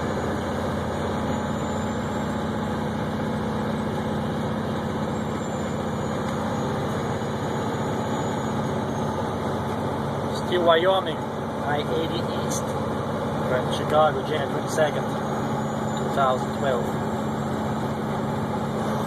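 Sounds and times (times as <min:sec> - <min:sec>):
road noise: 0:00.0 - 0:19.0
vehicle engine drone: 0:00.0 - 0:19.0.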